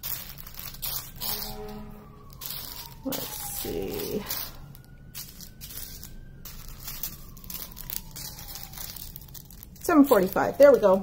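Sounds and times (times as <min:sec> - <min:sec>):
plastic zip bags crinkling: 0:00.0 - 0:11.0.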